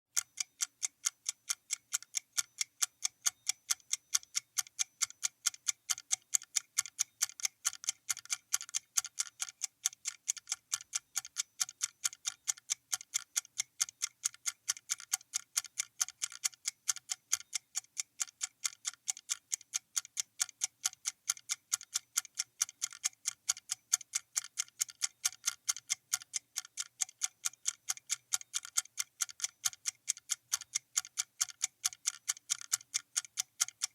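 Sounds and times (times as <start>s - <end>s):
clock ticking: 0.1s - 33.9s.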